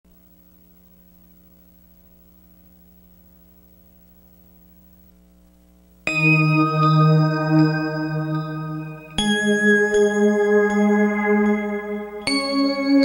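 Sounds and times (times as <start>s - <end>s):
faint electrical mains hum: 0.1s - 13.0s.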